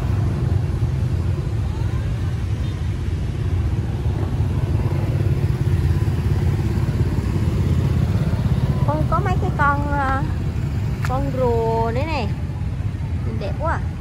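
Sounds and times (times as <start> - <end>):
motorbike traffic rumble: 0.0 - 14.0.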